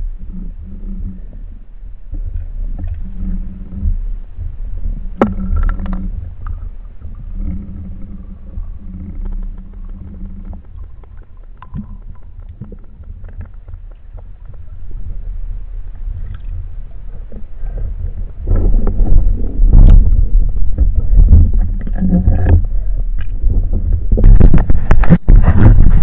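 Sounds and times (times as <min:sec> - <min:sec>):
low underwater rumble: 0:00.0 - 0:26.0.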